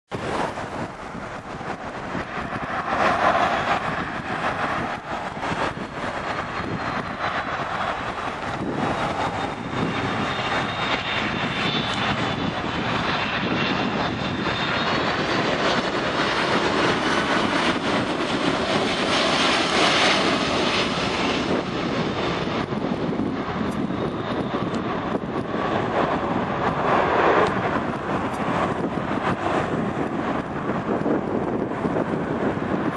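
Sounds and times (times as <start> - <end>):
jet airliner engines rushing: 0.1 - 32.9.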